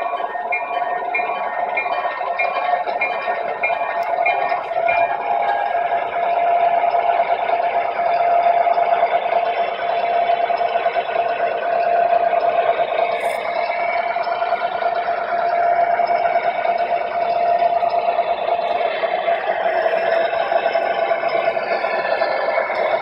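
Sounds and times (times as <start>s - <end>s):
model locomotive engine drone: 0.0s - 23.0s
running gear on track: 0.0s - 23.0s.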